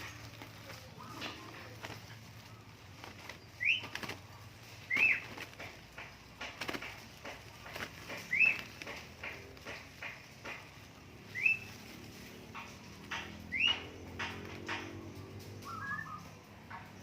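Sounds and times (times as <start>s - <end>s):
birds chirping: 0.0s - 17.0s
wings flapping: 0.0s - 17.0s.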